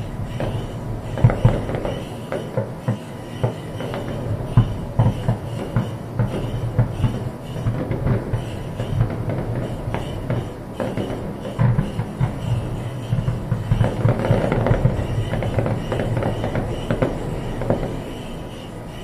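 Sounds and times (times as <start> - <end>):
firework sharp cracks: 0.0 - 18.5.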